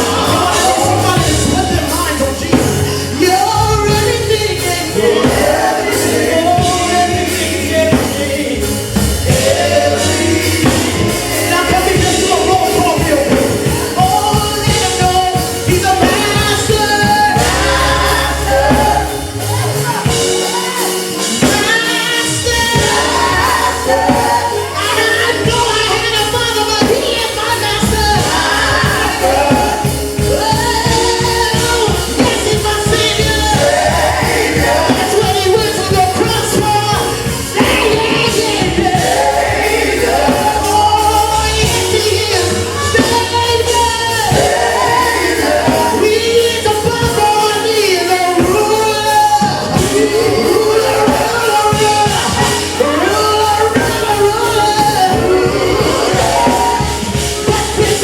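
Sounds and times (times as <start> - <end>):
band with bass and beat: 0.0 - 58.0
voices singing gospel: 0.0 - 58.0.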